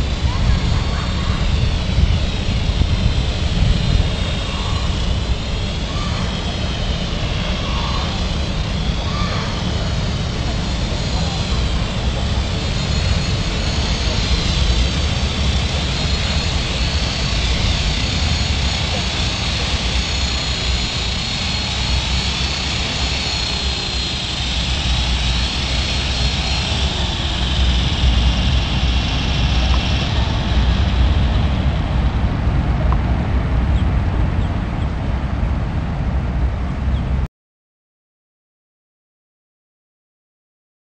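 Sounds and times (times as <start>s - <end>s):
helicopter rotor whining: 0.0s - 37.2s
steady low rumble: 0.0s - 37.3s.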